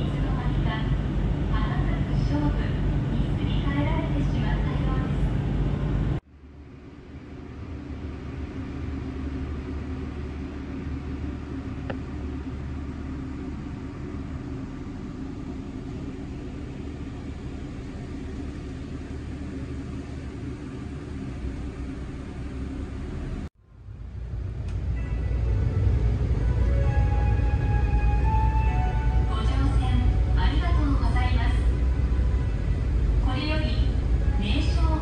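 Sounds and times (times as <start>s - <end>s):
boat engine humming: 0.0s - 35.0s.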